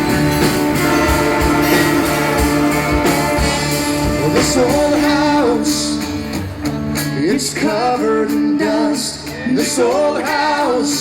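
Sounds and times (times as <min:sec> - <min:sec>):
sliding guitar melody: 0:00.0 - 0:10.4
country-rock band playing: 0:00.0 - 0:11.0.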